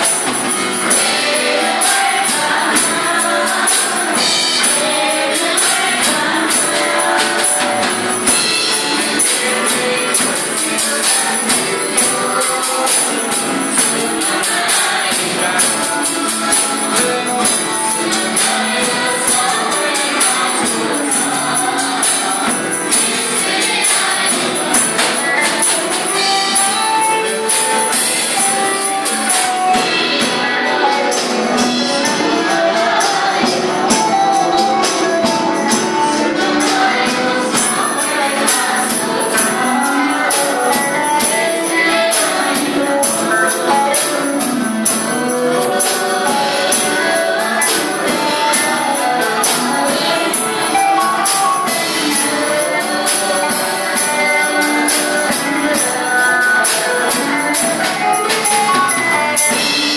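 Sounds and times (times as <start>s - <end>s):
acoustic guitar: 0.0s - 59.9s
drum kit: 0.0s - 59.9s
group singing in unison: 0.0s - 59.9s
jingling beat: 0.0s - 59.9s.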